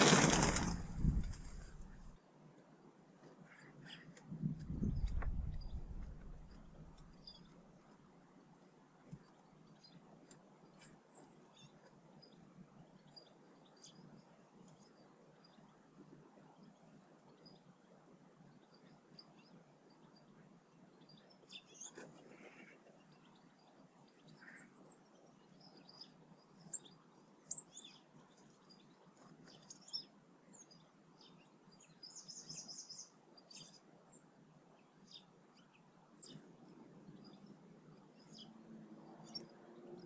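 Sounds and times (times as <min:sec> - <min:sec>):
faint background noise: 0:00.0 - 0:40.0
small birds chirping: 0:00.0 - 0:40.0.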